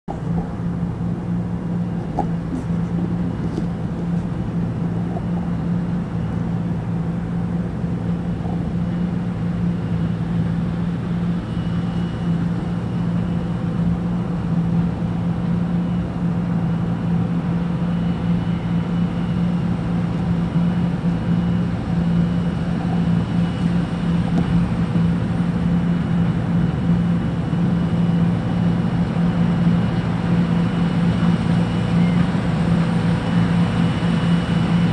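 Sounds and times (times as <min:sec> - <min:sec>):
combine harvester engine droning: 0:00.1 - 0:34.9.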